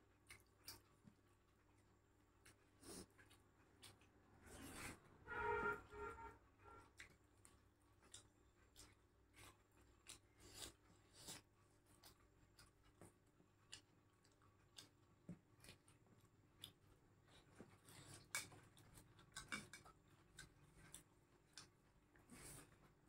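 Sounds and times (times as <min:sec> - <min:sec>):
chewing smacks: 0:00.0 - 0:05.0, 0:06.8 - 0:23.0.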